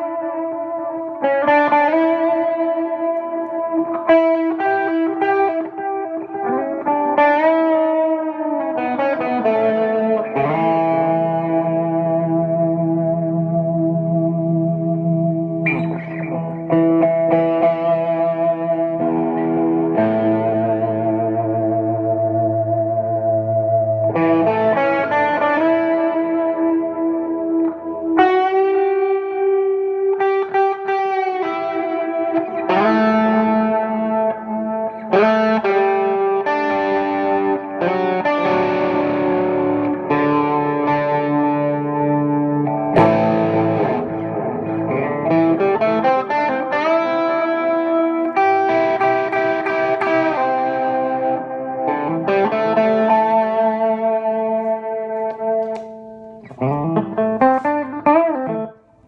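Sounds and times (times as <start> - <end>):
electric guitar noodling: 0.0 - 59.0.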